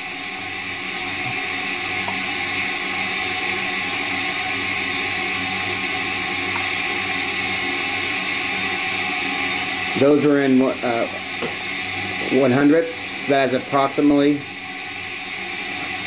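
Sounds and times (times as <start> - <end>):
spin dryer rotor hissing: 0.0 - 16.0.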